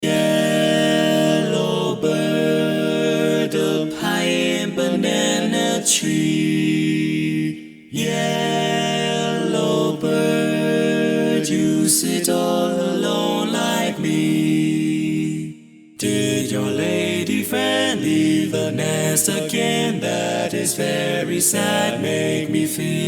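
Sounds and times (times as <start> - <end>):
a cappella voices singing in harmony: 0.0 - 23.0.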